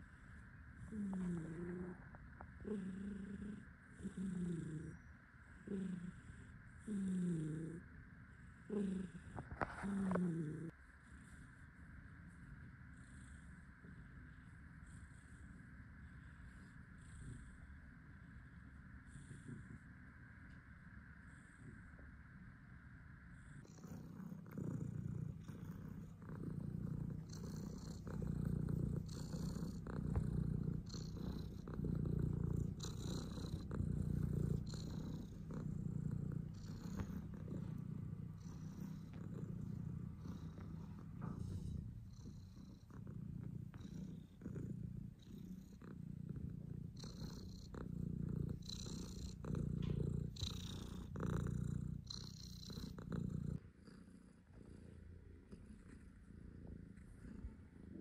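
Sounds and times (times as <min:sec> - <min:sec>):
cat purring: 0:00.0 - 0:22.2, 0:23.1 - 0:58.0.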